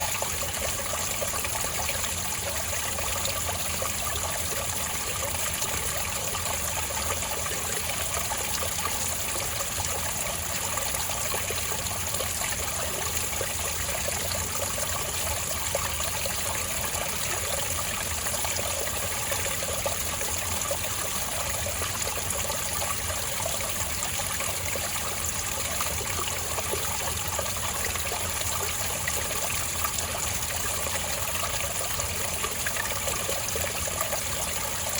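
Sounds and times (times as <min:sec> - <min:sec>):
water trickling over rocks: 0:00.0 - 0:34.9.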